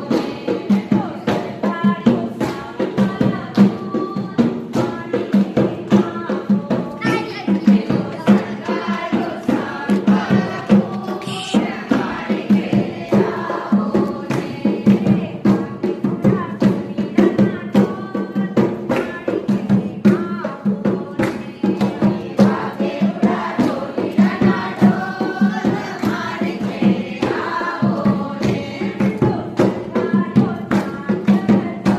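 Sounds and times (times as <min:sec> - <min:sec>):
group singing: 0:00.0 - 0:31.9.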